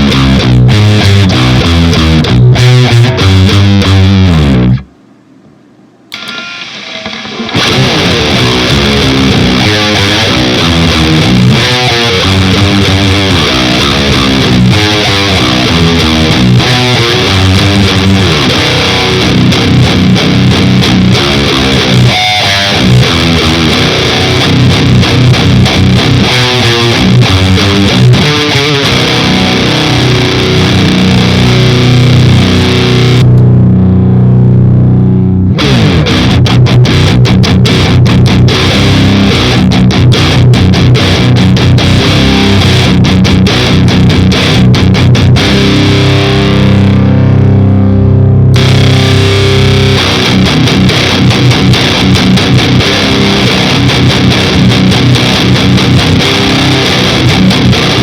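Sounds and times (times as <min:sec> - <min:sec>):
distorted electric guitar riffing: 0:00.0 - 0:04.9, 0:06.1 - 0:58.0.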